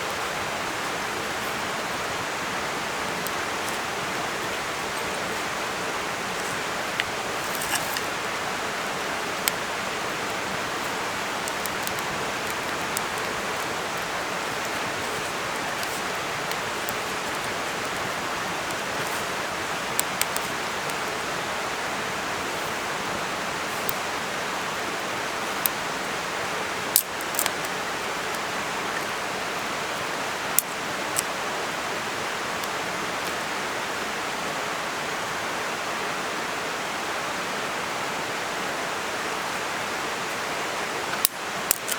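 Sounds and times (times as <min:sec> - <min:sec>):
campfire crackling and popping: 0:00.0 - 0:33.7, 0:41.0 - 0:41.9
fire hissing: 0:00.0 - 0:34.0.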